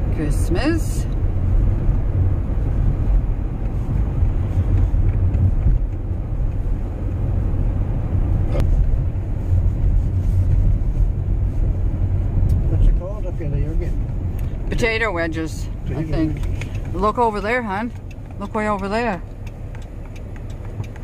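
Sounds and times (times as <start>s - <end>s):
engine and road rumble in van: 0.0s - 21.0s.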